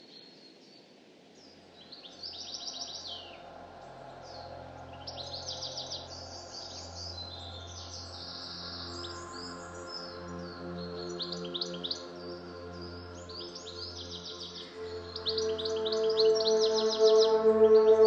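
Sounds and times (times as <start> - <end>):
birds chirping in trills: 0.0 - 18.0.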